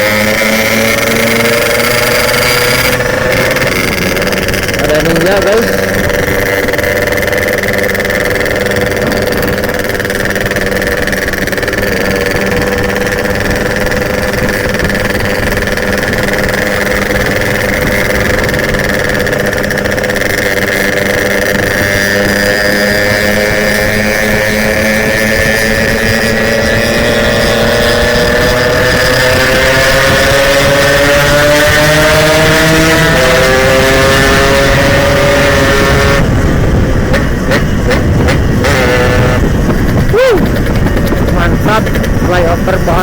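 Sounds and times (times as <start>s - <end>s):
two-stroke engine running: 0.0s - 43.0s.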